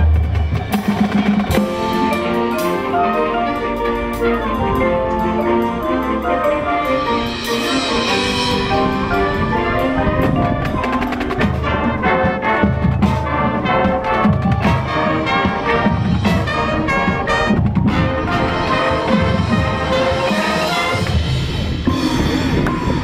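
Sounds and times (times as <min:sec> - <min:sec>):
mallet percussion: 0:00.0 - 0:23.0
marching band brass chords: 0:00.0 - 0:23.0
rhythmic percussion beat: 0:00.0 - 0:23.0.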